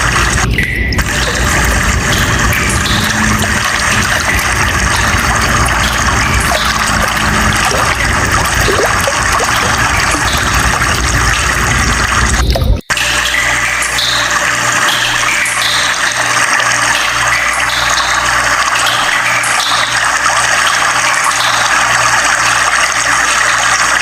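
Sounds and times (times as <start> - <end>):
water running: 0.0 - 24.0.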